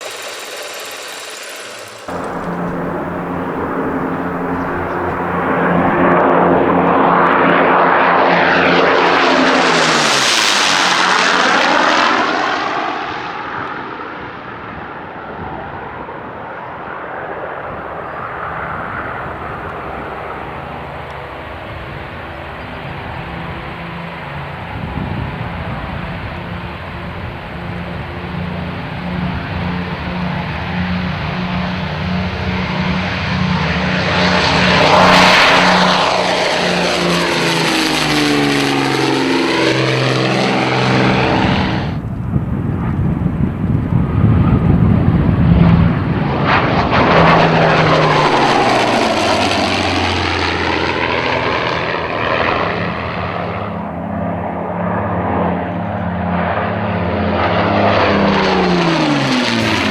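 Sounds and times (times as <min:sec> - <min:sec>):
propeller aircraft engines flyby: 0:00.0 - 0:59.9.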